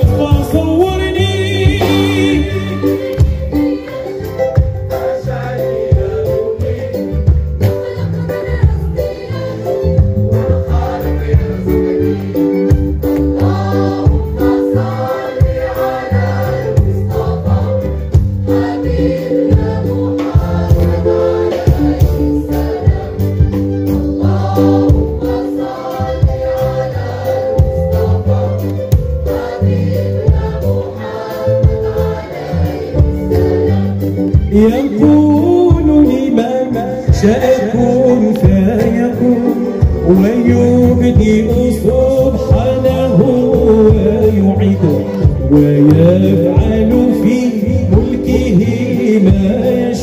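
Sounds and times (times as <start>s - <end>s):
choir singing: 0.0s - 50.0s
drums steady beat: 0.0s - 50.0s
violins cello and keyboard: 0.0s - 50.0s.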